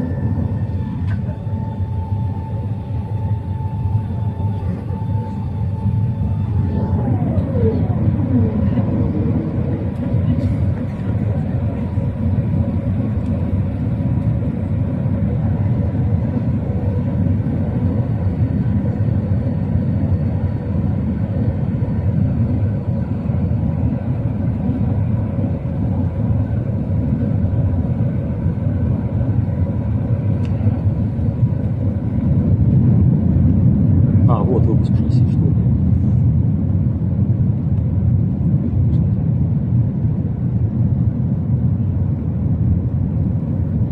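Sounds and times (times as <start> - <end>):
faint whining tones: 0.0 - 37.9
airplane cabin rumble: 0.0 - 43.9.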